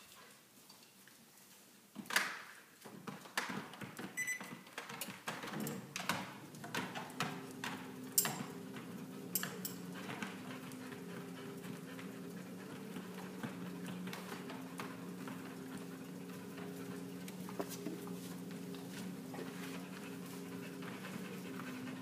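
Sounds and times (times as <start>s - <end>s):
dog claws clicking on treadmill: 0.6s - 22.0s
treadmill motor humming: 2.8s - 22.0s.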